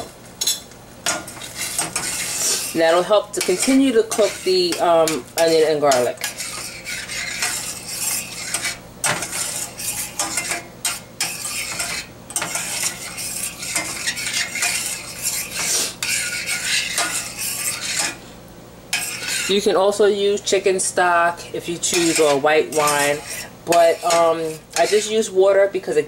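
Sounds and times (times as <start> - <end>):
metal spoon scraping saucepan: 0.4 - 18.2, 18.9 - 19.8, 21.4 - 25.3.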